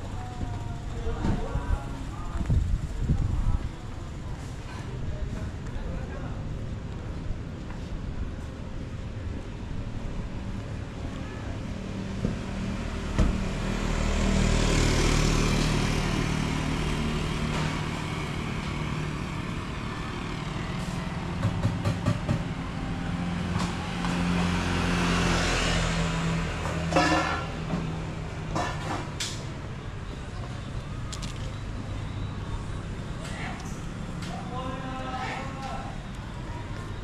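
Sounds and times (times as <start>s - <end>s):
traffic engine hum: 0.0s - 37.0s
vehicles passing: 0.0s - 37.0s.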